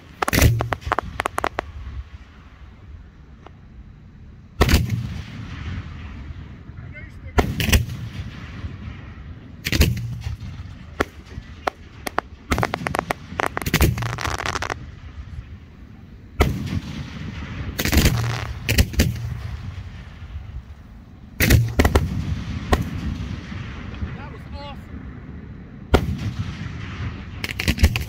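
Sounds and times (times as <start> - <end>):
rapid crackling pops: 0.0 - 3.6, 4.6 - 6.4, 7.3 - 15.8, 16.4 - 24.4, 25.9 - 28.0
fireworks bangs: 0.0 - 3.7, 4.6 - 28.0.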